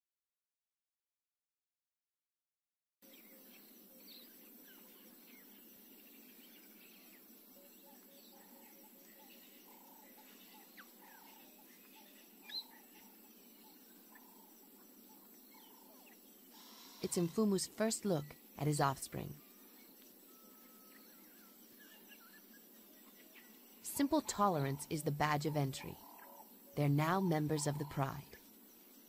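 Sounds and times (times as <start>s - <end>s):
low steady hiss: 3.0s - 29.0s.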